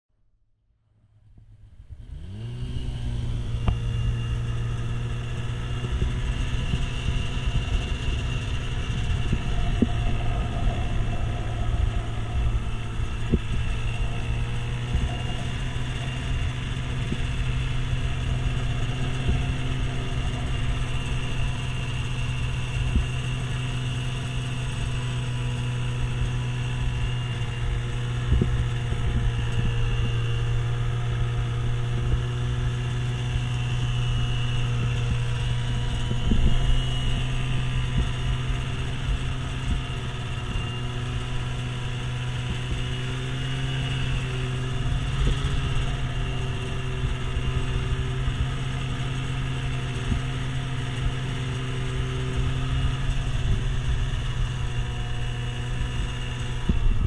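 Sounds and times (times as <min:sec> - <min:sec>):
snowmobile engine running: 0:01.3 - 0:57.0.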